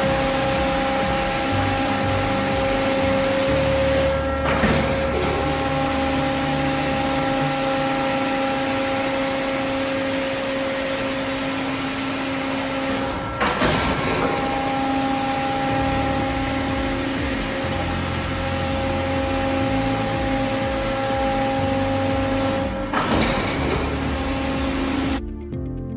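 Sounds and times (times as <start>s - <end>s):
piston pump mechanical hum and whine: 0.0s - 25.3s.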